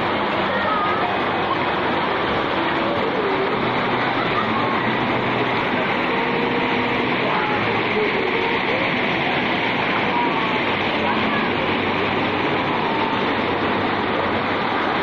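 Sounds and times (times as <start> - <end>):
faint children's voices: 0.0 - 15.0
fountain jets splashing water: 0.0 - 15.0.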